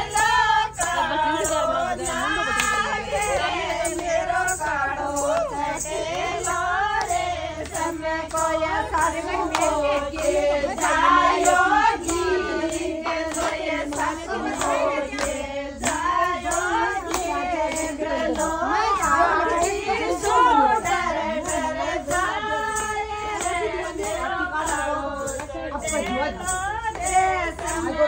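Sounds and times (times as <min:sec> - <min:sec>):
women singing together: 0:00.0 - 0:28.0
hand clapping: 0:00.1 - 0:28.0.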